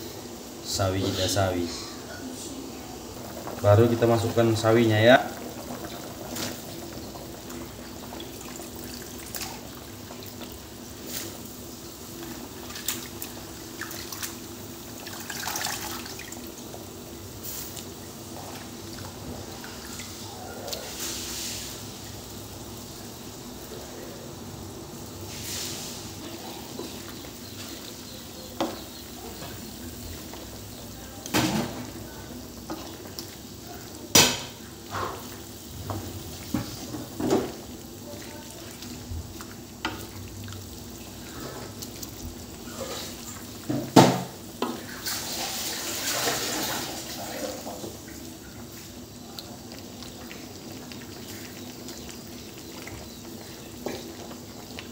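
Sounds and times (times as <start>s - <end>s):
broth simmering in a wok: 0.0s - 54.9s.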